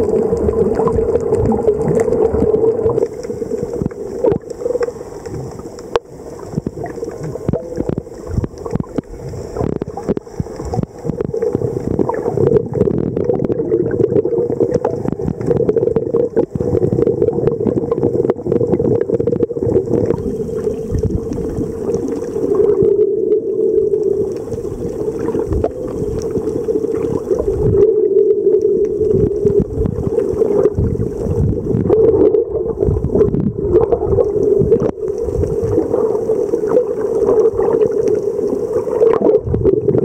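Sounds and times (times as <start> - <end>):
muffled underwater rushing: 0.0 - 40.0.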